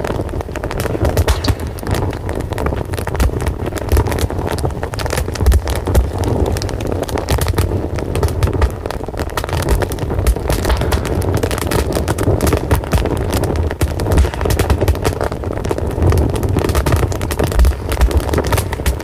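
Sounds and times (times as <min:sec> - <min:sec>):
fire crackling: 0:00.0 - 0:19.0
low rumble of fire: 0:00.0 - 0:19.0.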